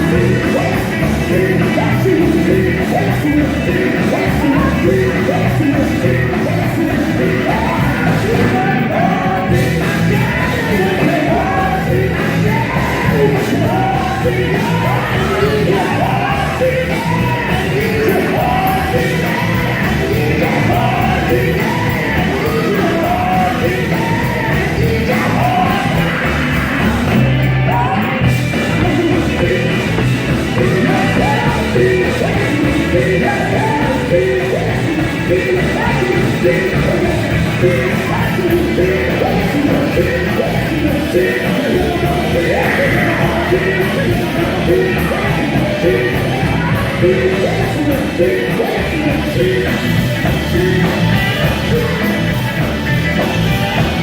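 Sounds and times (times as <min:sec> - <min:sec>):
live band playing: 0:00.0 - 0:54.0
voices singing: 0:00.0 - 0:54.0.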